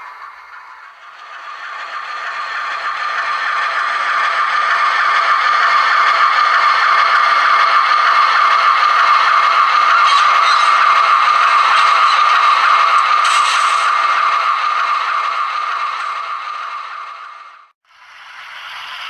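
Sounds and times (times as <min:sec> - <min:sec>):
model train motor whirring: 0:00.0 - 0:19.0.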